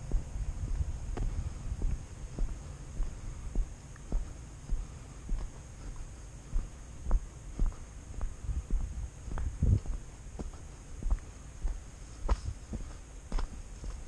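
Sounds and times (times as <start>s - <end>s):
footsteps on dirt road: 0.0s - 14.0s.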